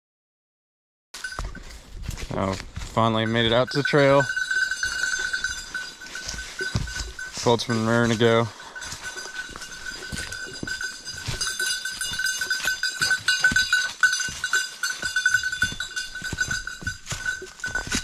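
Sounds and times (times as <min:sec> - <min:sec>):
small bell jingling: 0:01.2 - 0:02.2, 0:02.8 - 0:18.0
footsteps in dry leaves: 0:01.2 - 0:18.0.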